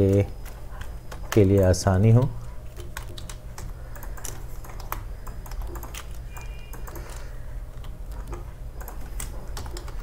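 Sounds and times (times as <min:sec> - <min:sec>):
keyboard keys tapping: 0:00.0 - 0:10.0
low steady hum: 0:00.0 - 0:10.0.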